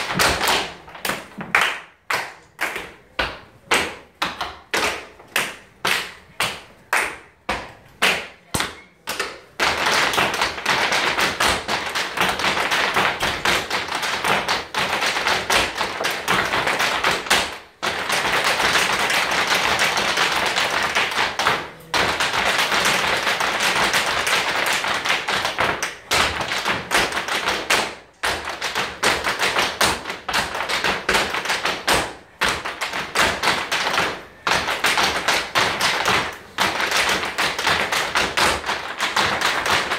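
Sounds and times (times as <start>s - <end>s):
dancers clapping in unison: 0.0s - 8.3s, 9.1s - 39.9s.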